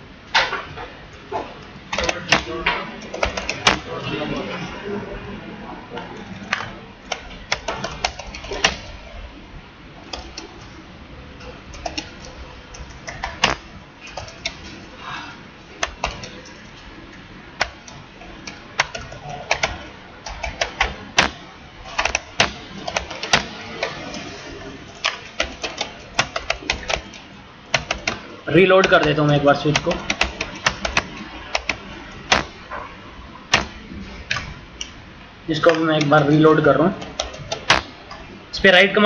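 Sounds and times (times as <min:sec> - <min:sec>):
computer keyboard typing: 0:01.9 - 0:04.6, 0:06.2 - 0:09.2, 0:10.0 - 0:10.8, 0:11.4 - 0:32.8, 0:33.5 - 0:38.3.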